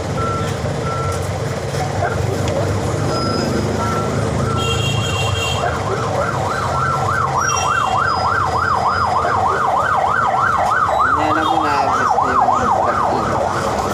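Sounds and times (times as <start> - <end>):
low traffic rumble: 0.0 - 13.9
siren yelping: 1.9 - 13.9.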